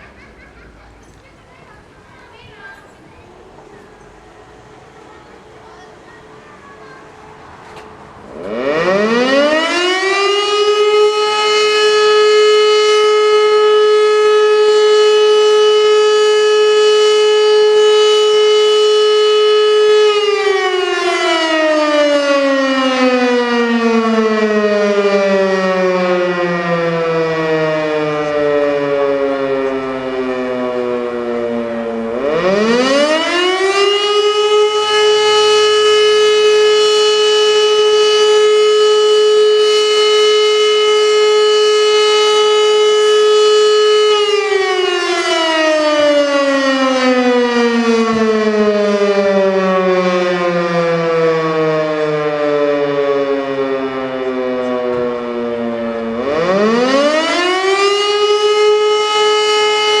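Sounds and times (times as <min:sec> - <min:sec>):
electric rotary siren: 0:07.9 - 1:00.0.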